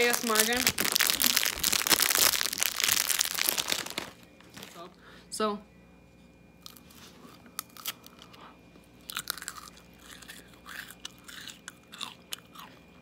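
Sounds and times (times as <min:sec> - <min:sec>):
crunchy ice cream cone chewing: 0:00.0 - 0:04.2, 0:06.6 - 0:13.0.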